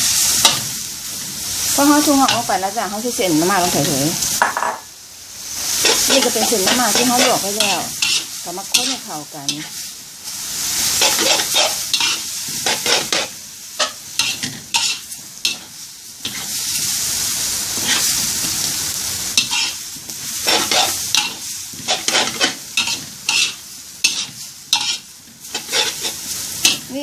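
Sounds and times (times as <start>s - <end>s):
noodles sizzling in a wok: 0.0s - 27.0s
metal spatula scraping wok: 1.4s - 4.0s, 5.6s - 18.7s, 19.3s - 26.9s.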